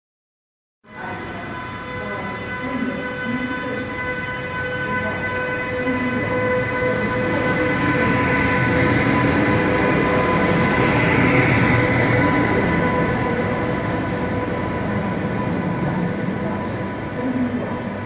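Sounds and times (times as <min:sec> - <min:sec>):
steady high whine: 0:00.9 - 0:18.0
train rumbling past: 0:00.9 - 0:18.0.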